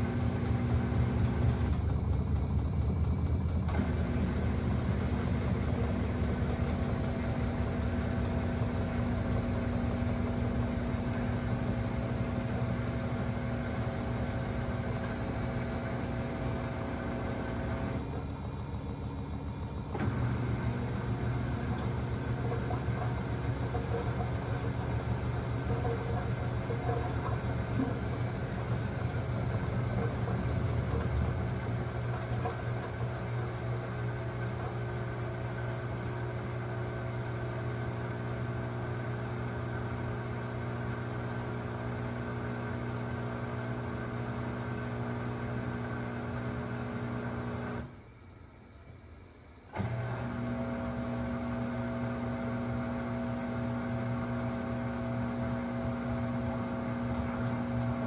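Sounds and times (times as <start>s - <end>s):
washing machine buzzing hum: 0.0s - 58.0s.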